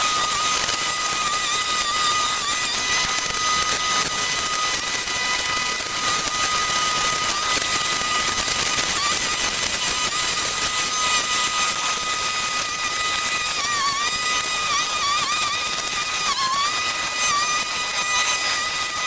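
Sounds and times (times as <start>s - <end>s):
brush cutter engine whining: 0.0s - 19.0s.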